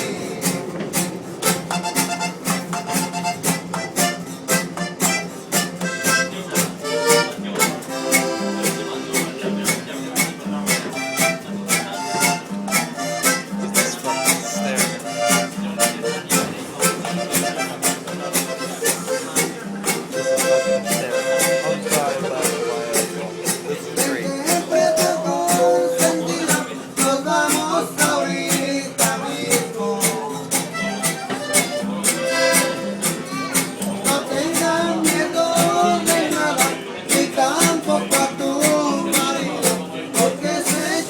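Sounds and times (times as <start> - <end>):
accordion melody: 0.0 - 41.0
strummed guitar: 0.0 - 41.0.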